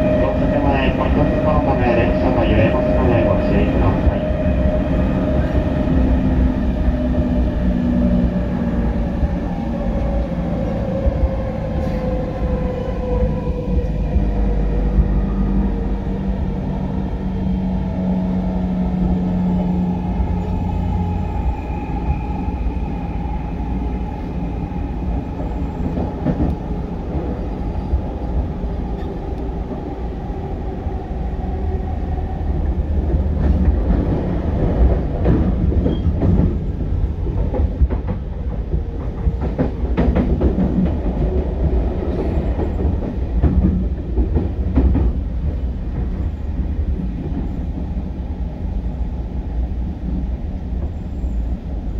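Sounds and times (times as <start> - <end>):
electric train traction tones: 0.0 - 49.2.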